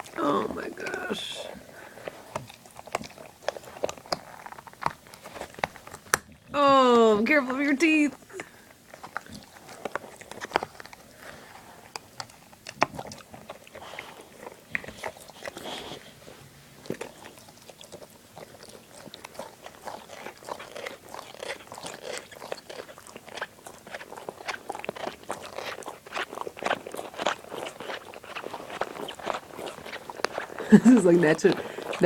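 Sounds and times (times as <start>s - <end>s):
dog chewing a toy ball: 0.0s - 32.0s.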